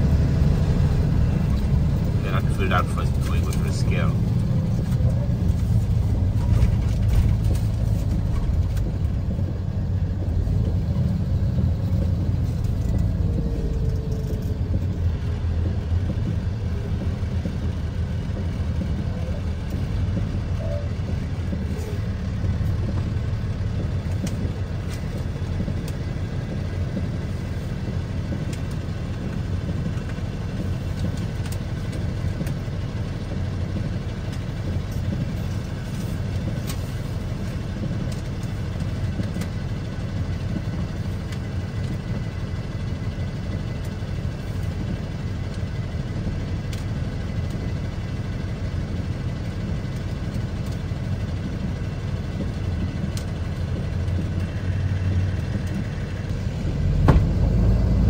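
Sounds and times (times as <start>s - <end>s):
road noise: 0.0s - 58.0s
vehicle engine rumble: 0.0s - 58.0s.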